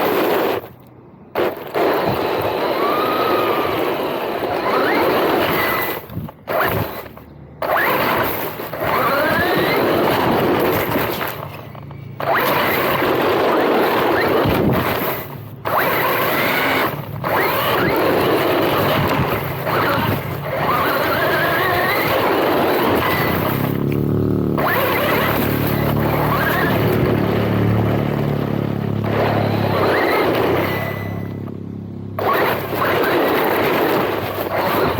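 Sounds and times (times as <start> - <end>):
rc car motor whining: 0.0 - 34.9
steady rush of noise: 0.0 - 34.9.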